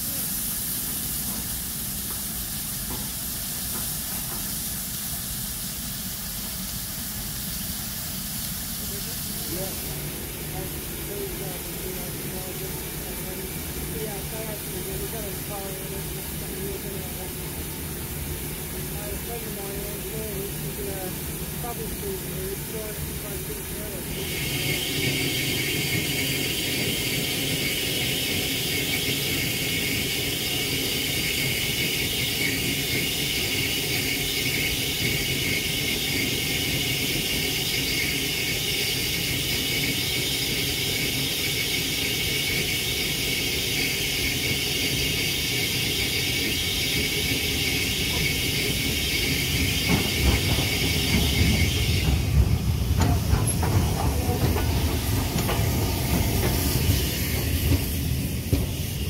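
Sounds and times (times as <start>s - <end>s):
rumble of passing steam locomotive: 0.0s - 59.0s
steam hissing from locomotive: 0.0s - 59.0s.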